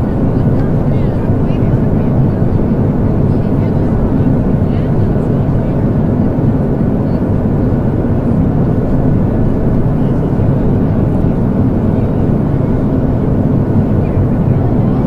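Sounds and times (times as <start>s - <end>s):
jet airliner roar: 0.0s - 15.0s.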